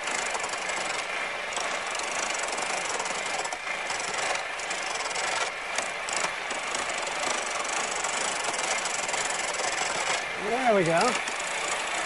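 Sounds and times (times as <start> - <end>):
gouge scraping wood on lathe: 0.0 - 12.0.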